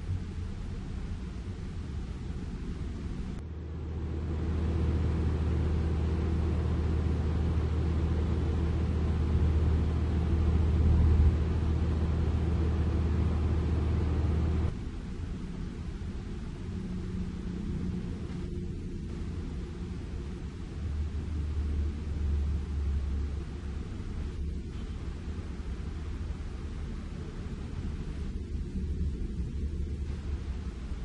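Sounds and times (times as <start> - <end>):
heavy vehicle engine rumbling: 0.0 - 31.0.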